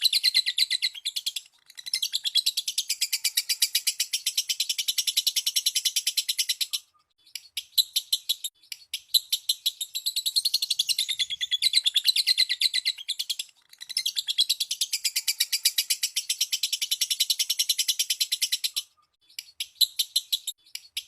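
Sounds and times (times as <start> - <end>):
lovebird chattering trill: 0.0 - 21.0.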